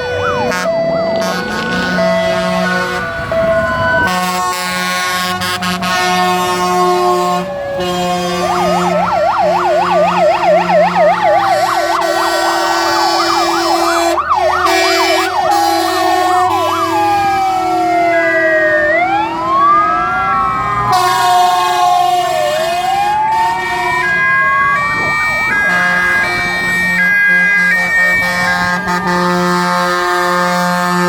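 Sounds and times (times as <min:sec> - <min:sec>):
siren rising and falling wails: 0:00.0 - 0:05.0, 0:06.2 - 0:30.6
fire truck engines: 0:00.0 - 0:31.0.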